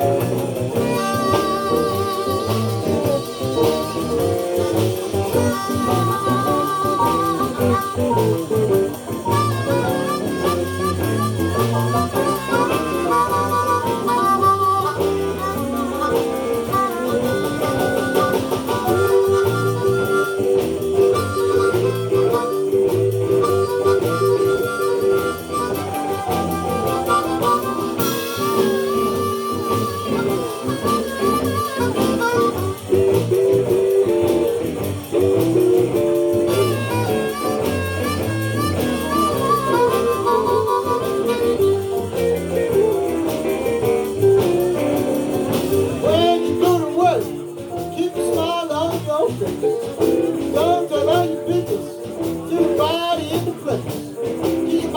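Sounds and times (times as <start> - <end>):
guitar backing: 0.0 - 54.9
harmonica wavering notes: 0.0 - 54.9.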